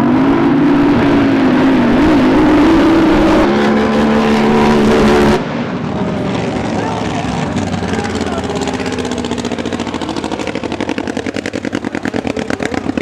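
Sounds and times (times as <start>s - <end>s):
drag boat engine revving: 0.0s - 13.0s
second steady engine note: 0.0s - 13.0s.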